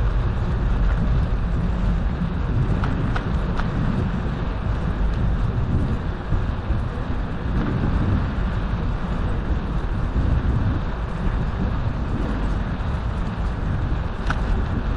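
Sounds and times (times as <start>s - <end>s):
bicycle tyres rolling on asphalt: 0.0s - 14.9s
wind noise on microphone: 0.0s - 14.9s.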